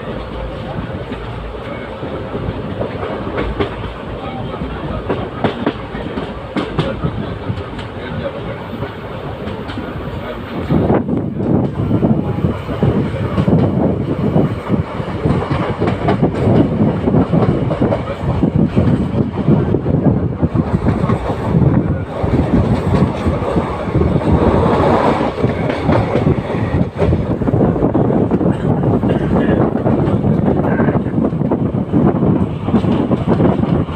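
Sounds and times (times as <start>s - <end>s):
train wheels rumbling over track: 0.0s - 33.9s.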